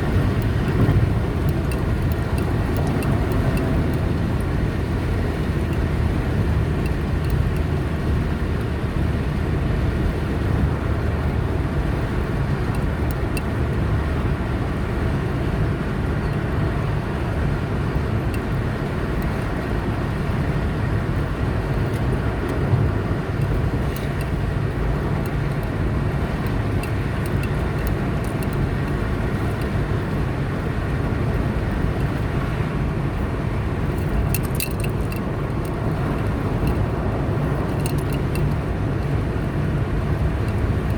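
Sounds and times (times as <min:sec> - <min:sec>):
car engine hum: 0:00.0 - 0:40.9
tyre road noise: 0:00.0 - 0:40.9.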